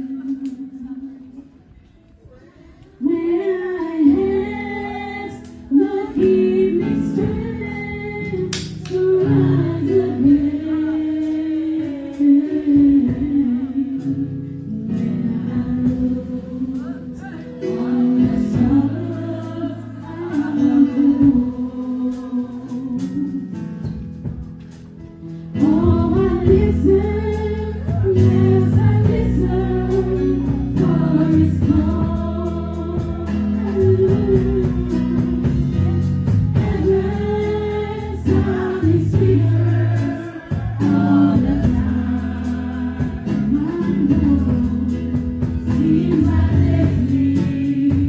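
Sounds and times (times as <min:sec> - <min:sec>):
woman singing gospel song: 0:00.0 - 0:01.5, 0:03.0 - 0:23.7, 0:25.6 - 0:48.0
bass and keyboard backing track: 0:00.0 - 0:48.0.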